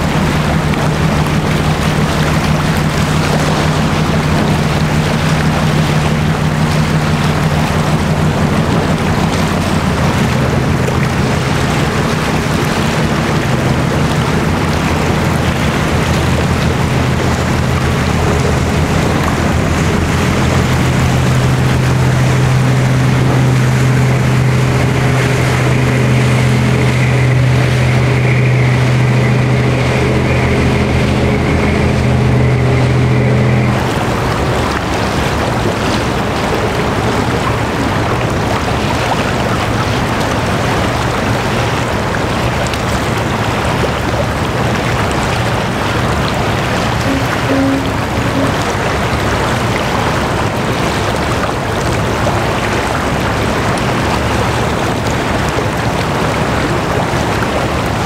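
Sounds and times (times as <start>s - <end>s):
ship diesel engine drone: 0.0s - 58.0s
water wash: 0.0s - 58.0s
wind: 0.0s - 58.0s.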